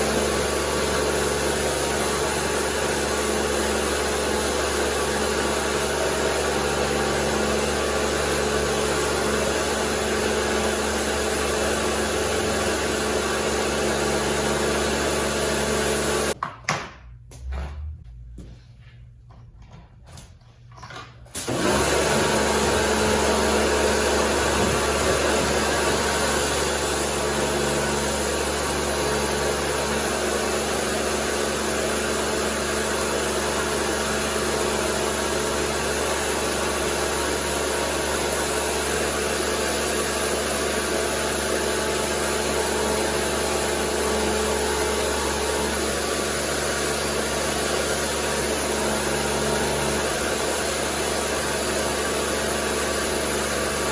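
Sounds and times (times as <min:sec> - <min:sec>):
pressure washer motor hum: 0:00.0 - 0:16.4, 0:21.3 - 0:53.9.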